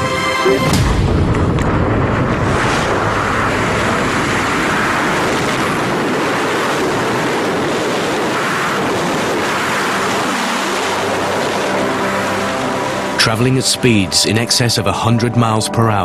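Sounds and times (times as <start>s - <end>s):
wind rushing over microphone: 0.6s - 14.2s.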